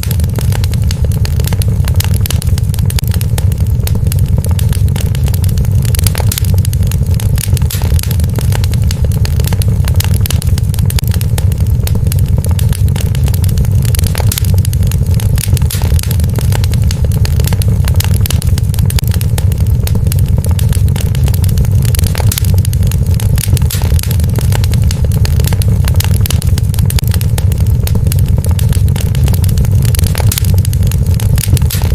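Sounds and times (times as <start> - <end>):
wood fire crackling and roaring: 0.0 - 31.9.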